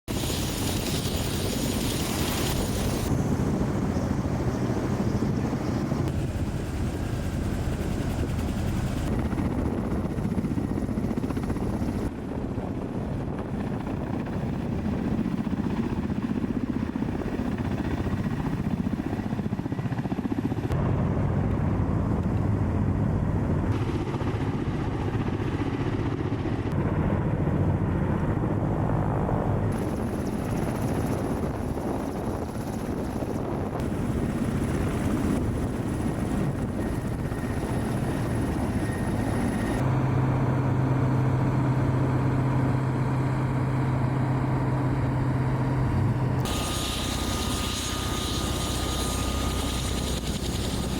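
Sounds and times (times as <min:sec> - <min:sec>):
helicopter rotors and turbines: 0:00.1 - 0:50.9.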